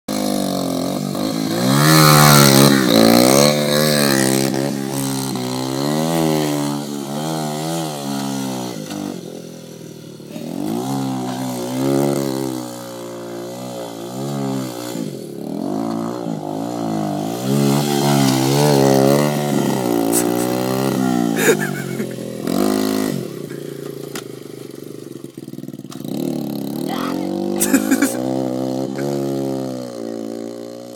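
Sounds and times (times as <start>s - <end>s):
dirt bike engine revving: 0.1s - 30.9s.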